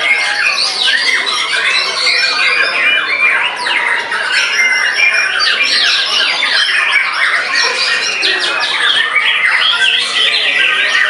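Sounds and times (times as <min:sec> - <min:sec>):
songbirds singing whistled phrases: 0:00.0 - 0:11.0.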